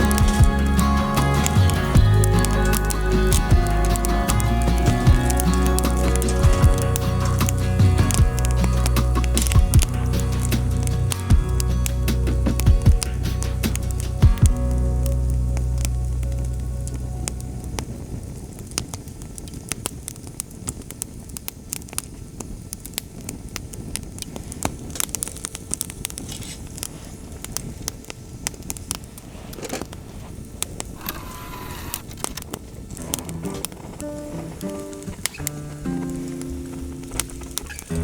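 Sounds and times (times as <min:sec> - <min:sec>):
fire hissing: 0:00.0 - 0:38.0
wood fire crackling and popping: 0:00.0 - 0:38.0.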